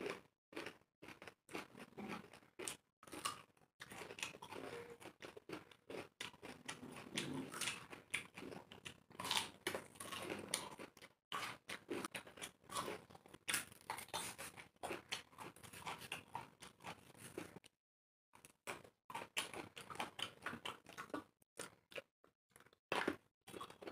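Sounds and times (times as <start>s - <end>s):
people chewing crunchy fruit: 0.0s - 17.7s, 18.4s - 23.9s.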